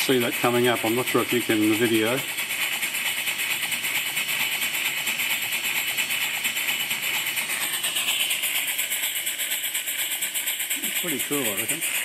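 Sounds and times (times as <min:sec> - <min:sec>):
steady steam hiss: 0:00.0 - 0:12.0
steam pump clattering: 0:00.0 - 0:12.0.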